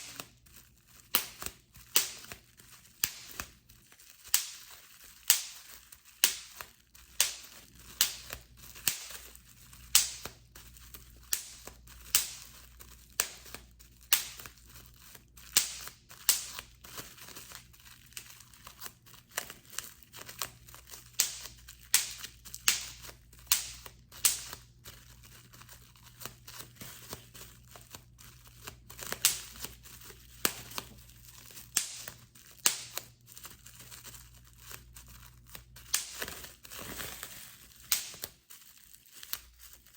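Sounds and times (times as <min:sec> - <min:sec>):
bubble wrap popping: 0:00.0 - 0:39.9
plastic crinkling: 0:00.0 - 0:39.9.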